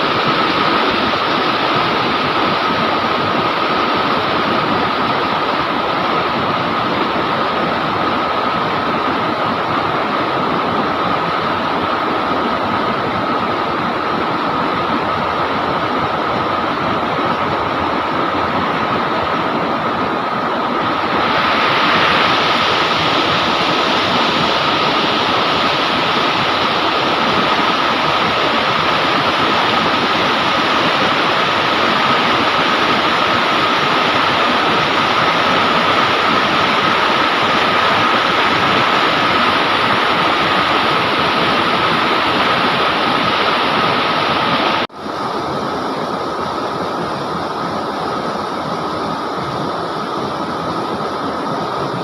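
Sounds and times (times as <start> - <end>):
river water rushing over rocks: 0.0 - 52.0.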